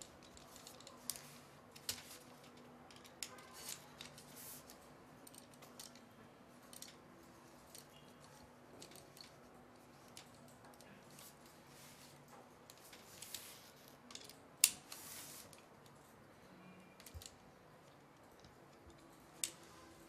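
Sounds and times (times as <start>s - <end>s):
hex key clicking and scraping: 0.0s - 16.1s.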